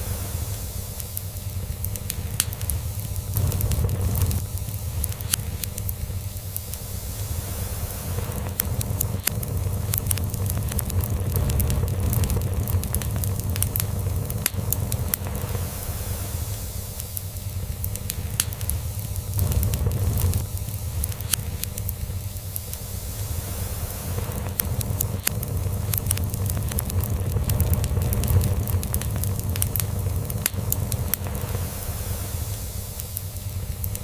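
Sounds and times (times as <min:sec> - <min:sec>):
log fire crackling: 0:00.0 - 0:34.0.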